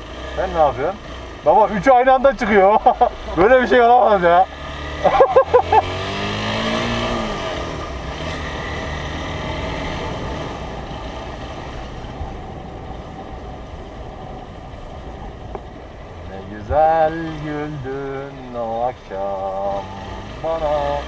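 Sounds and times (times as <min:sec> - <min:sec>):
motorcycle engine pulling away: 0:02.8 - 0:21.0.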